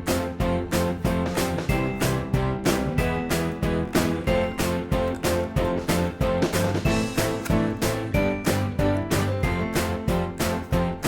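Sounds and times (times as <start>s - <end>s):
upbeat music with plucked notes: 0.0s - 11.0s.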